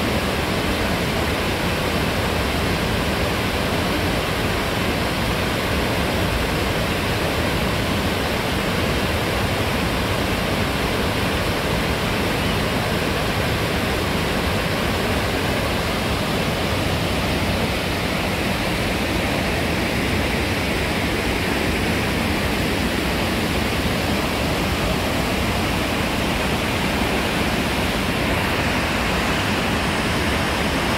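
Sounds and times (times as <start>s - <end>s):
river and waterfall roaring: 0.0s - 30.9s.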